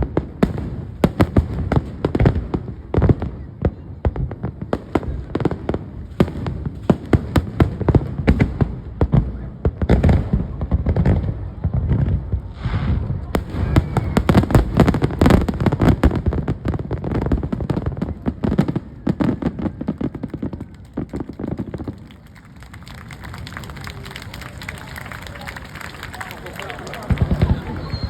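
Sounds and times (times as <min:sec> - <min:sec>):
deep fireworks booms: 0:00.0 - 0:22.4, 0:26.8 - 0:28.0
fireworks bursts and crackling: 0:00.0 - 0:28.0.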